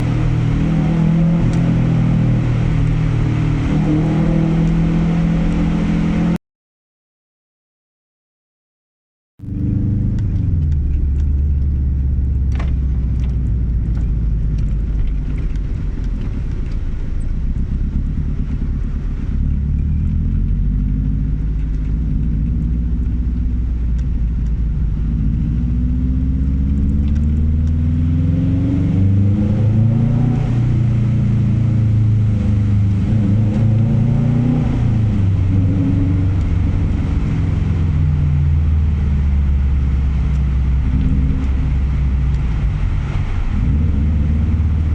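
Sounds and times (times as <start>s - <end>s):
car engine idling and revving: 0.0s - 6.4s, 9.4s - 44.9s.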